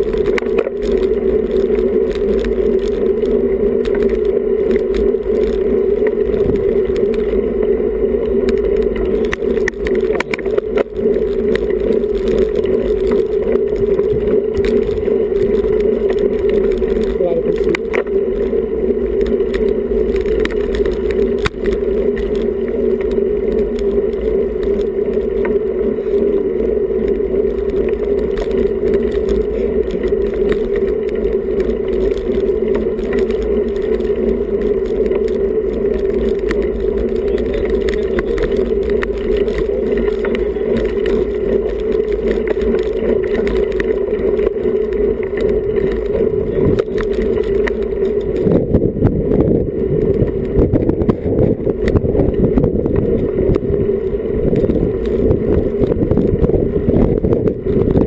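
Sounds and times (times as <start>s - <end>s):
bike rattling clicks: 0.0s - 58.0s
wind and road noise: 0.0s - 58.0s.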